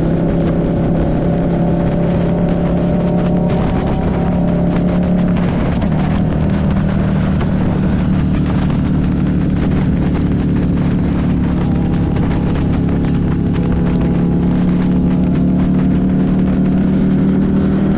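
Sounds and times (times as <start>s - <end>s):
motorcycle engine running: 0.0s - 17.9s
wind rush: 0.0s - 17.9s.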